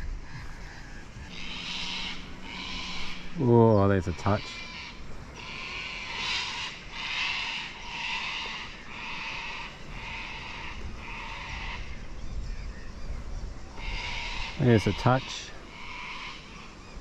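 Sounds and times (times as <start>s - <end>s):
animal call: 0.0s - 13.0s, 13.7s - 17.0s.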